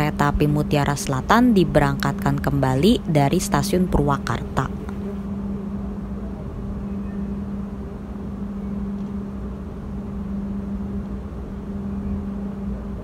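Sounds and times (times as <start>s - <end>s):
train hum and rumble from inside: 0.0s - 13.0s.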